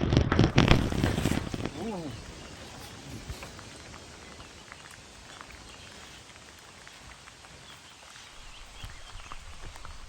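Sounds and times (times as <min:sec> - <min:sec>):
light rain hiss: 0:00.0 - 0:10.0
raindrop ticks: 0:00.5 - 0:10.0.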